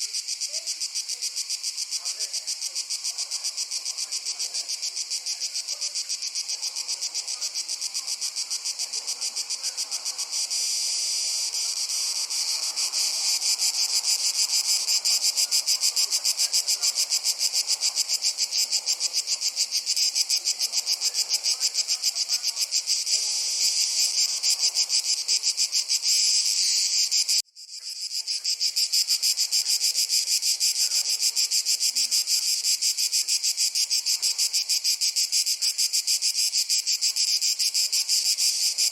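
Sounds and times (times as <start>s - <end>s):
chorus of singing insects: 0.0s - 38.9s.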